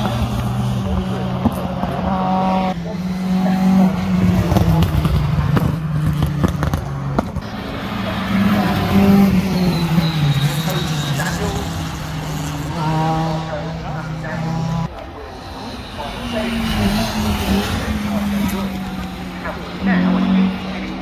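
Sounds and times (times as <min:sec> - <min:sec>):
rally cars passing at speed: 0:00.0 - 0:21.0.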